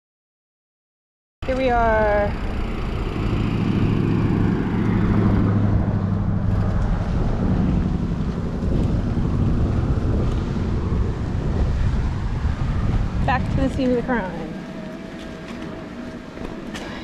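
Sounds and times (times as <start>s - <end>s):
vehicle engine humming: 1.4s - 17.0s.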